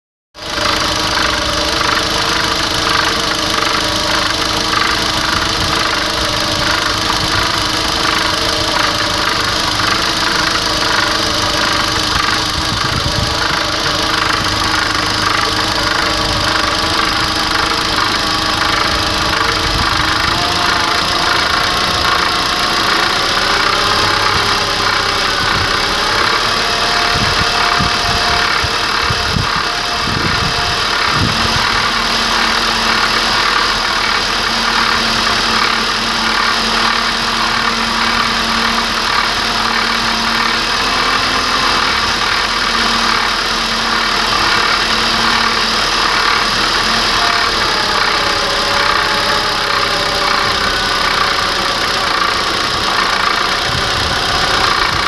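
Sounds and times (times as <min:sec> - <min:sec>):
petrol engine knocking: 0:00.4 - 0:55.0.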